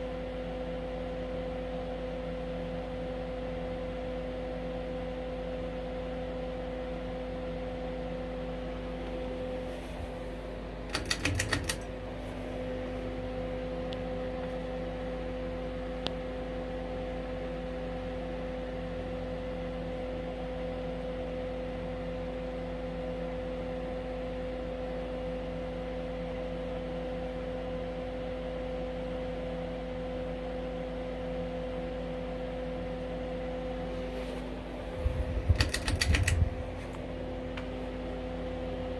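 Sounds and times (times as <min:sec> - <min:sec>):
ceiling fan motor hum: 0:00.0 - 0:38.9
space heater drone: 0:00.0 - 0:38.9.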